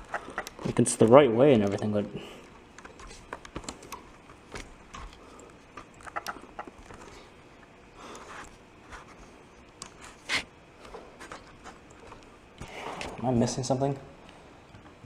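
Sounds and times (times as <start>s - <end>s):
plastic clicks and scrapes: 0.0s - 13.2s.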